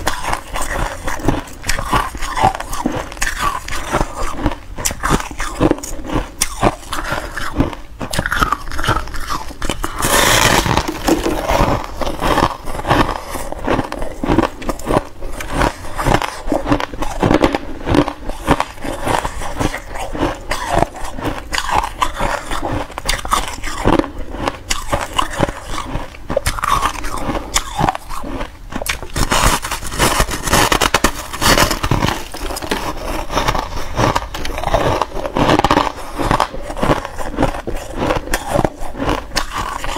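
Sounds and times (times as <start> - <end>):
crunching frost while chewing: 0.0 - 39.9.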